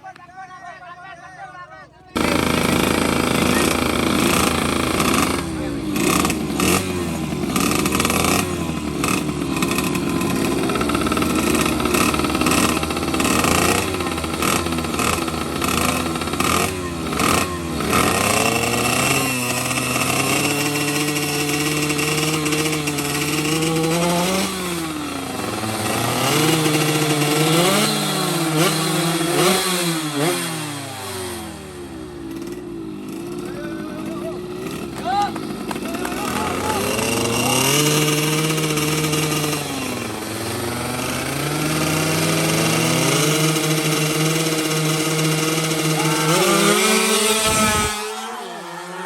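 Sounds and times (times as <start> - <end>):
motorcycles revving and accelerating: 2.1 - 49.0.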